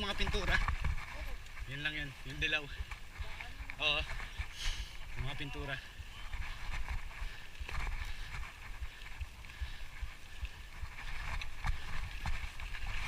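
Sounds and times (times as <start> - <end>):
wind and tyre rolling noise: 0.0 - 13.0.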